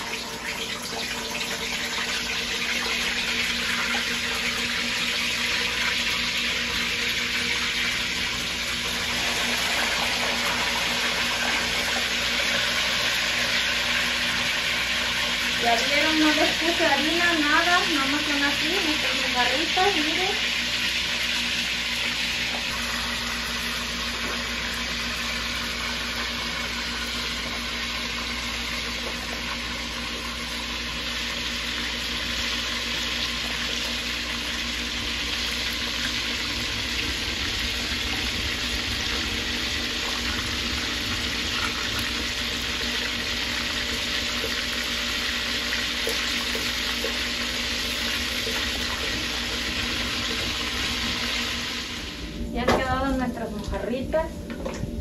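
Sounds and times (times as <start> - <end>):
fish sizzling in hot oil: 0.0 - 52.4.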